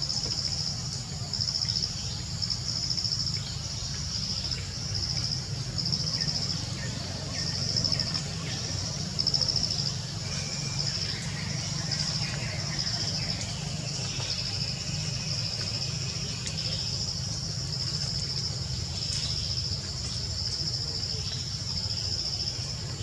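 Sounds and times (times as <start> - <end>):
insects trilling chorus: 0.0 - 23.0.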